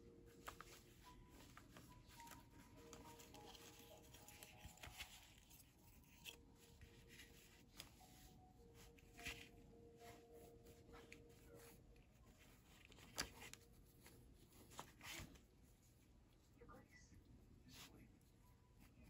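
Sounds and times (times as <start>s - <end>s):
fabric pages rustling: 0.0s - 16.5s.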